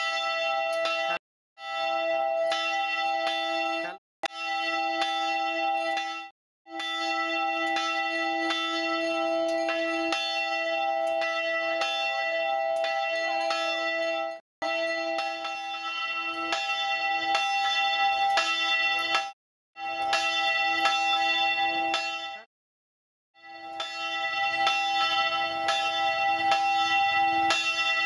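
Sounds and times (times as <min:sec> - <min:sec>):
large bronze bell ringing: 0:00.0 - 0:22.5, 0:23.4 - 0:28.0.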